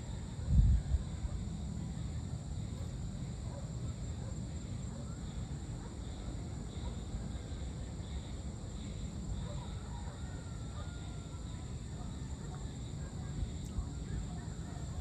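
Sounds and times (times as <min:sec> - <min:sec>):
insects droning and chirping: 0:00.0 - 0:15.0.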